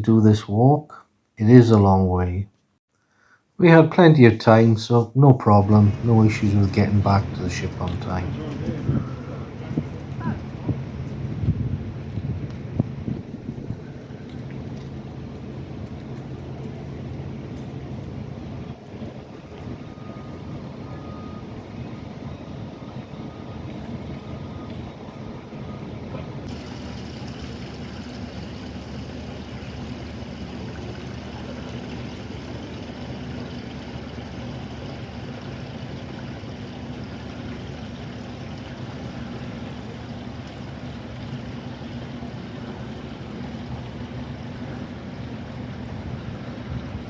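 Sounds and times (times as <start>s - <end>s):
low engine drone: 5.4s - 47.0s.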